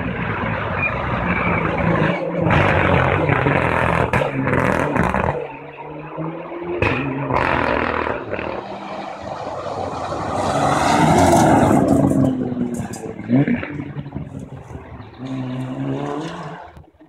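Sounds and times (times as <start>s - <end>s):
rally car passing at speed: 0.0s - 16.8s.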